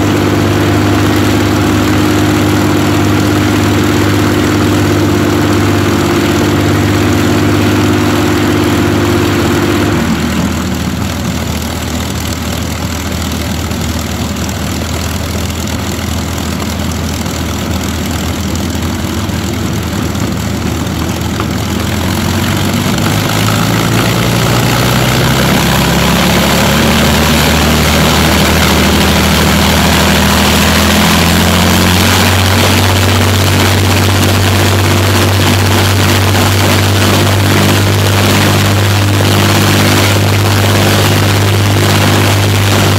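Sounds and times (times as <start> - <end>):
propeller aircraft engine running: 0.0 - 42.9.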